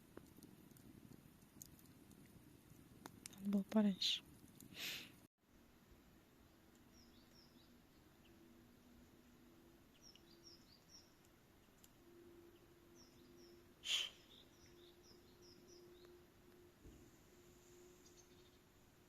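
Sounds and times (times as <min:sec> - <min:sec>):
small birds chirping: 0:00.0 - 0:05.3, 0:06.4 - 0:18.9
low steady hum: 0:00.0 - 0:19.0.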